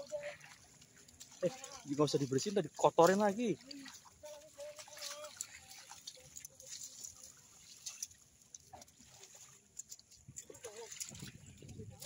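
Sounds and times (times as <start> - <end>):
splashing in muddy water: 0.0 - 12.0.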